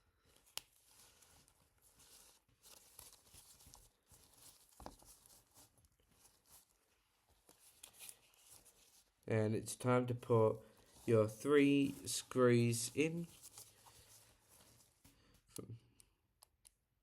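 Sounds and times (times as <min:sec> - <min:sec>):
soft rustling: 0:00.2 - 0:15.6.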